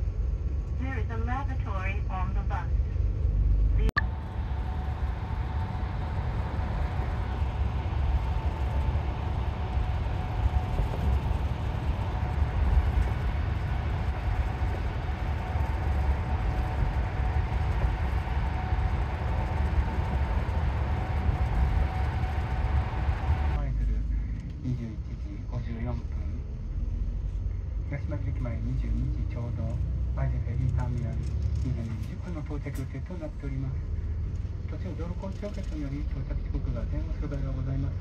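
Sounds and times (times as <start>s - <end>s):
faint humming tones: 0.0s - 38.0s
vehicle engine rumble: 0.0s - 38.0s.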